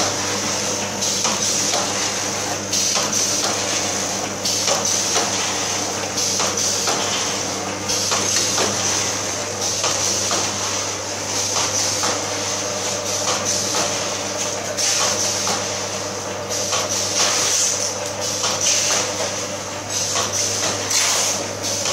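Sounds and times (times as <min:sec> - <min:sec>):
packing machine motor hum and hiss: 0:00.0 - 0:21.9.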